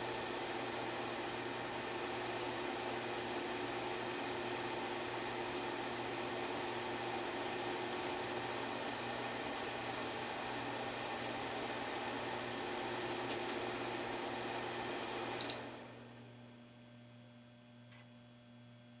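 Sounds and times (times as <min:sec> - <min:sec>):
air conditioner fan running: 0:00.0 - 0:16.6.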